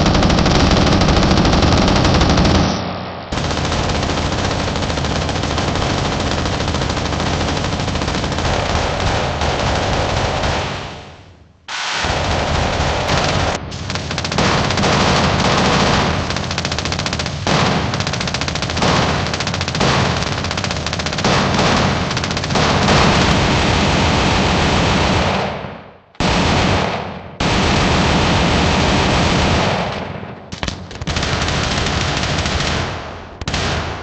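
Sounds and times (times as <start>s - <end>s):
machine-gun fire: 0.0s - 34.0s.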